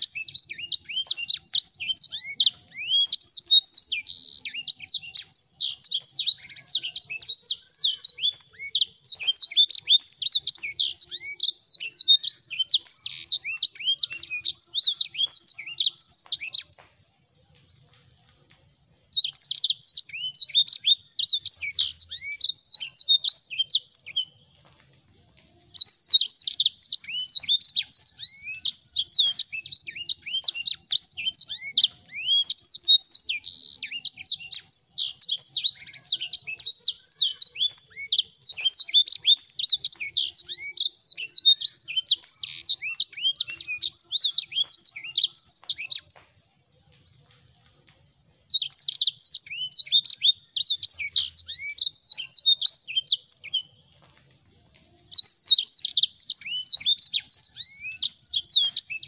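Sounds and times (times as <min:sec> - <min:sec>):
songbird twittering song: 0:00.0 - 0:17.1, 0:19.1 - 0:24.5, 0:25.6 - 0:46.4, 0:48.4 - 0:53.8, 0:55.0 - 0:59.0.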